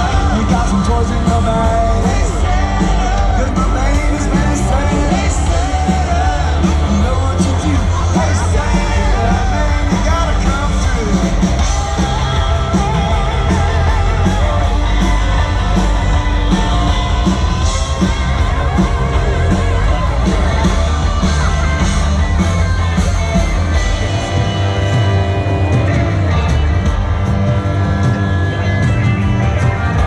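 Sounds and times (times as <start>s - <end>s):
live rock and roll band: 0.0s - 30.0s.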